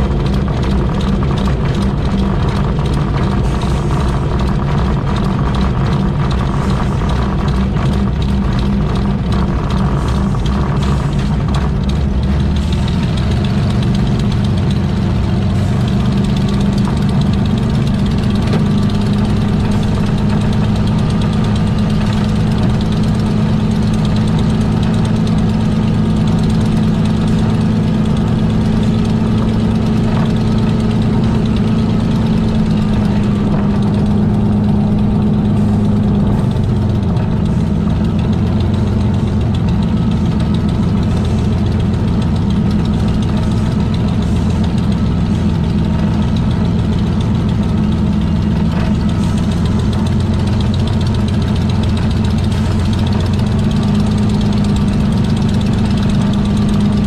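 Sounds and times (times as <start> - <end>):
aircraft engine low drone: 0.0 - 57.0.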